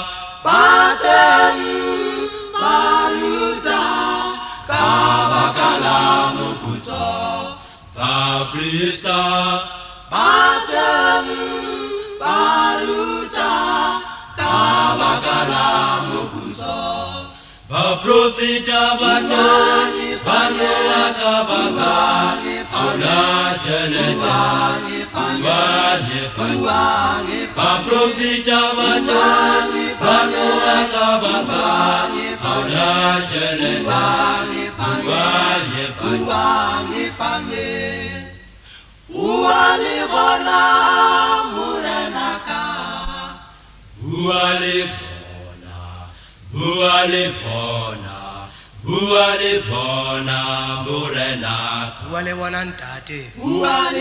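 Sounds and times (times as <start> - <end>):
male group singing a cappella: 0.0 - 54.0.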